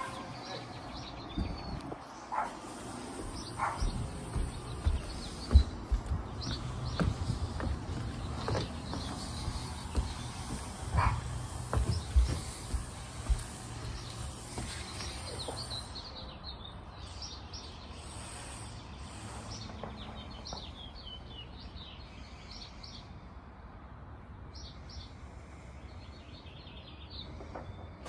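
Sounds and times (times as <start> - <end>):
small birds chirping: 0.0 - 23.2.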